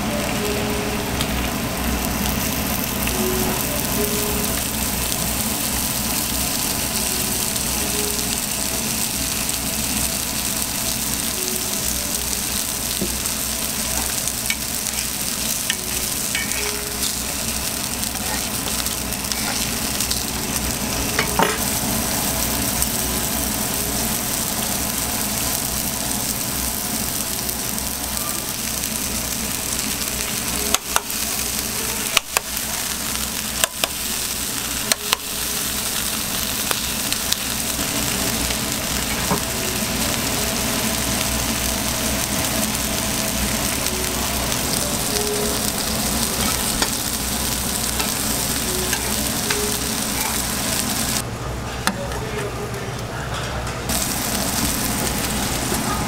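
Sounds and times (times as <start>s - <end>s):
patties sizzling on a griddle: 0.2s - 51.2s, 53.9s - 56.0s.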